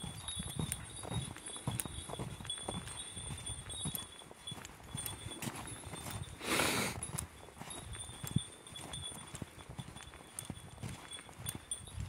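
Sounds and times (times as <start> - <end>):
footsteps and hoofbeats on snow: 0.0 - 12.0.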